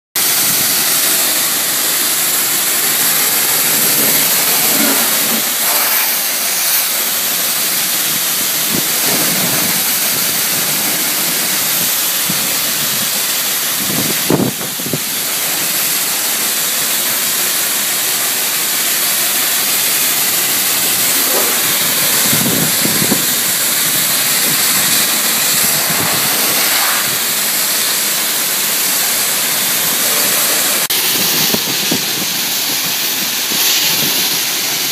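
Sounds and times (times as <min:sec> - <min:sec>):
high-pressure water spray hissing: 0:00.2 - 0:34.9.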